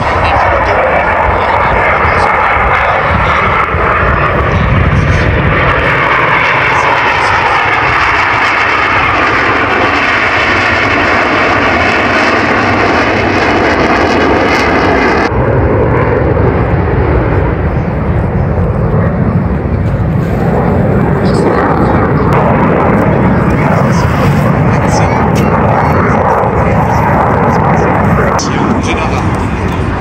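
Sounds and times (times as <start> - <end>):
aircraft flying past: 0.0 - 30.0.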